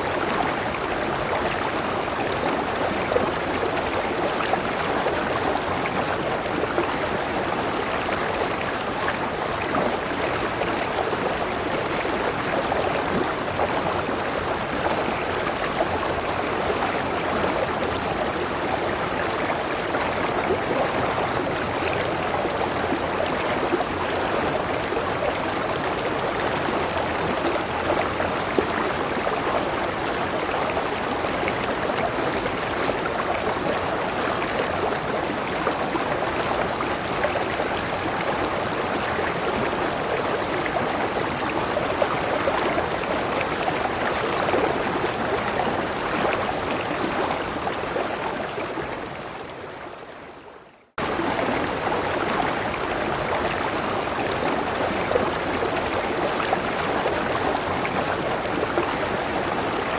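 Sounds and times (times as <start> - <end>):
water rushing over rocks: 0.0 - 49.5, 51.0 - 59.9.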